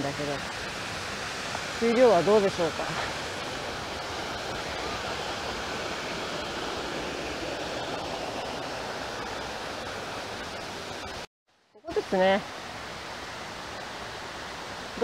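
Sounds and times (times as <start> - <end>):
stream rushing over rocks: 0.0 - 11.3, 11.9 - 15.0.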